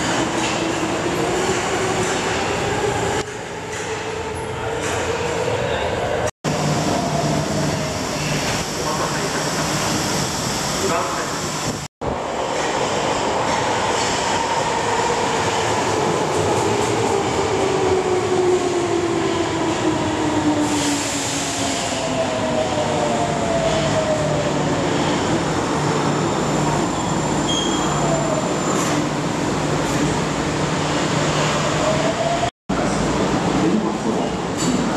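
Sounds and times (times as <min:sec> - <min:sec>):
train wheel-on-rail rumble: 0:00.0 - 0:34.9.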